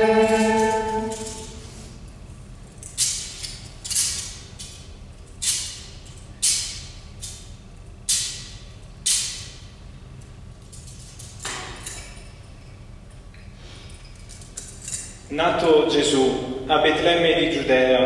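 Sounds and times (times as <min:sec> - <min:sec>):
censer chains clinking: 0:00.0 - 0:16.2.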